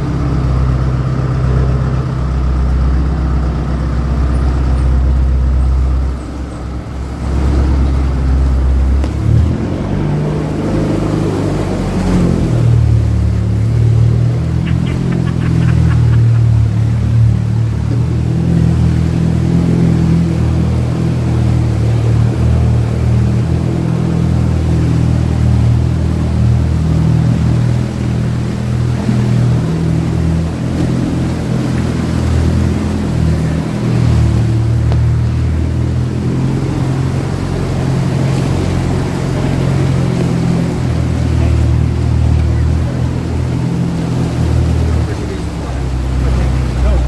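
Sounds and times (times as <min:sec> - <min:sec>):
diesel engine running at low revs: 0:00.0 - 0:47.0.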